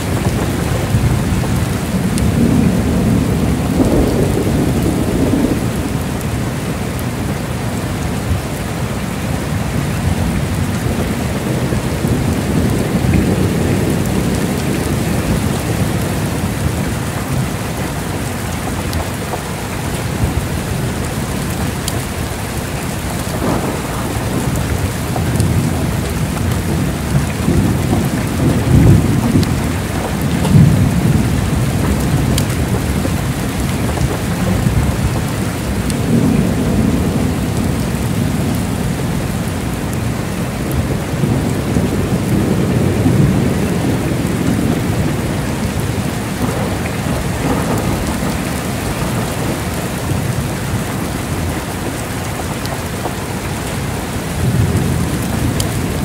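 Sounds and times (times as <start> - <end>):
low rolling thunder: 0.0 - 8.6, 9.2 - 56.0
heavy rain falling: 0.0 - 56.0.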